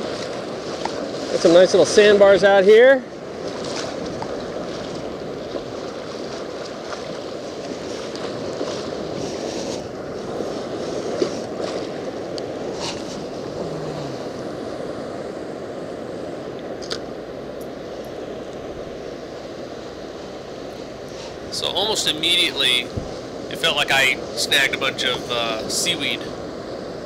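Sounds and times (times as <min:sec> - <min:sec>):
wind on microphone: 0:00.0 - 0:21.6, 0:22.3 - 0:24.4
ocean surf washing: 0:00.0 - 0:27.0.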